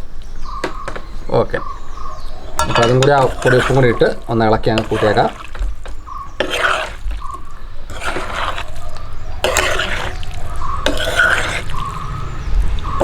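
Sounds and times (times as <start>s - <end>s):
spoon squelching in thick mash: 1.9s - 13.0s.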